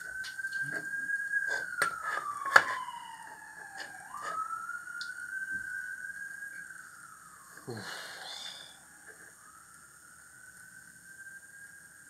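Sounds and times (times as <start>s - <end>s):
gliding whistle-like tone: 0.0s - 12.0s.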